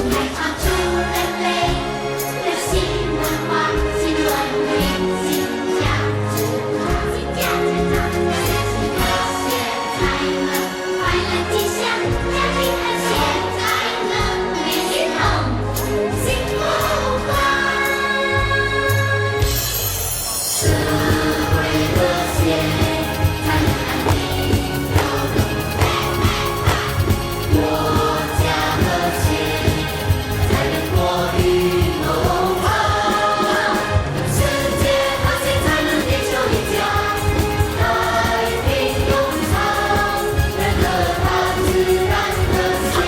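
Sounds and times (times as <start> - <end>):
music with beat and singing: 0.0 - 43.0.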